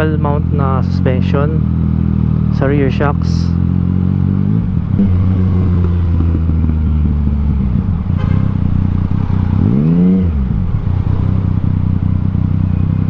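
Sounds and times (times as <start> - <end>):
motorcycle engine running and revving: 0.0 - 13.0.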